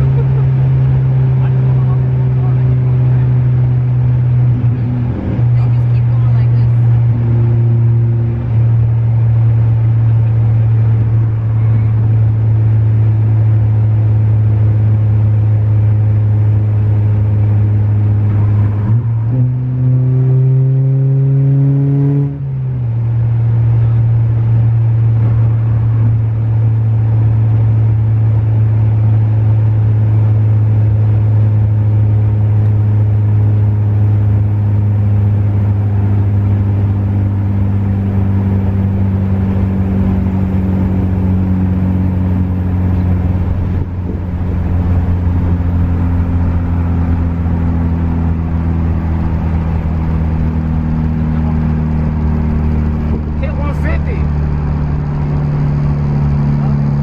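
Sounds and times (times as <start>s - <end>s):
car engine droning: 0.0s - 57.0s
tyre and road noise: 0.0s - 57.0s.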